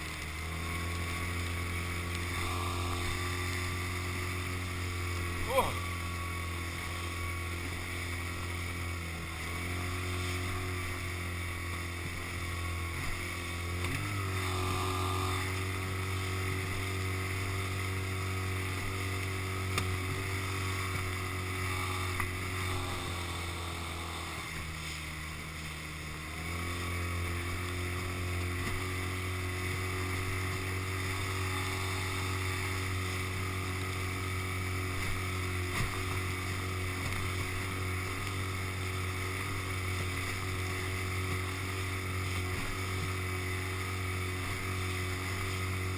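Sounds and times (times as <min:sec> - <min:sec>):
small outboard motor: 0:00.0 - 0:45.9.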